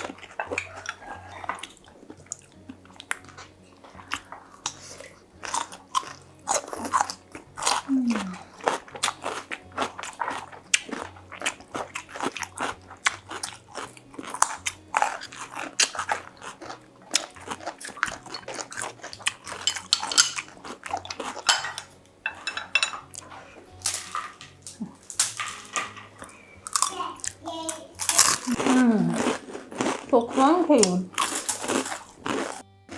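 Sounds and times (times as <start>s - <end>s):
crunchy eating: 0.0s - 32.9s.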